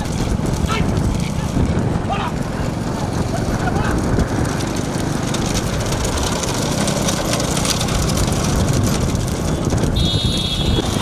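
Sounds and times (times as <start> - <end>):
heavy wind noise: 0.0 - 11.0
motorcycle engine running: 0.0 - 11.0.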